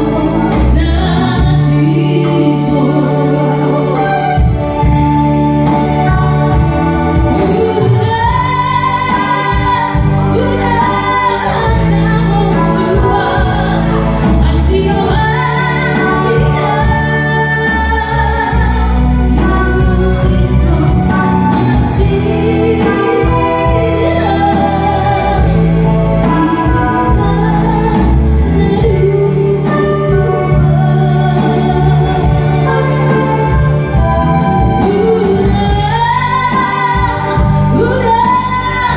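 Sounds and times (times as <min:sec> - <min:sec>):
keyboard accompaniment: 0:00.0 - 0:38.9
woman singing: 0:00.0 - 0:38.9.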